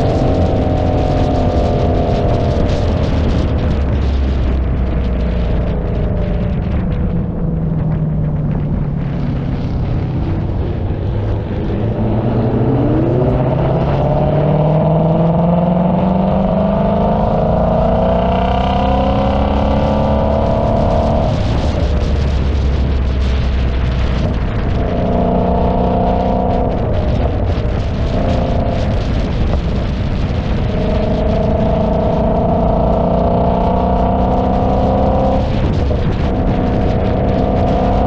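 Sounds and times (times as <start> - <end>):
car engine under throttle: 0.0 - 38.0
road rumble: 0.0 - 38.0.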